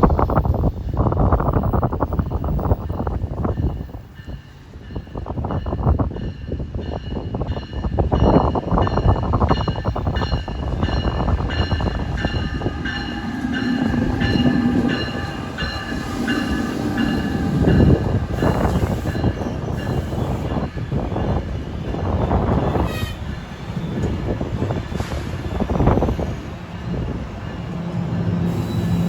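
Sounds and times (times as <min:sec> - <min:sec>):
train rumbling and clattering: 0:00.0 - 0:29.0.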